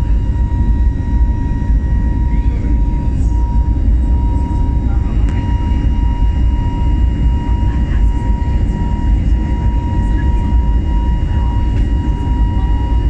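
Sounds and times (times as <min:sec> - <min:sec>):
airliner engine and airflow rumble: 0:00.0 - 0:13.0
thin steady whine: 0:00.0 - 0:13.0.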